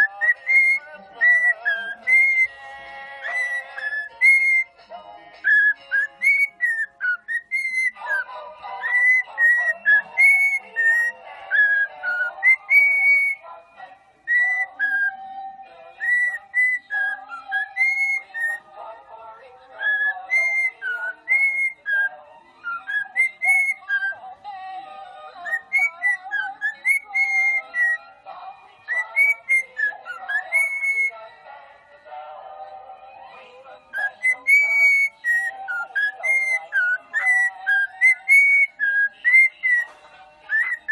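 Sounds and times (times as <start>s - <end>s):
whistled tune: 0.0s - 13.4s, 14.3s - 18.6s, 19.7s - 24.2s, 25.3s - 31.2s, 33.8s - 40.9s.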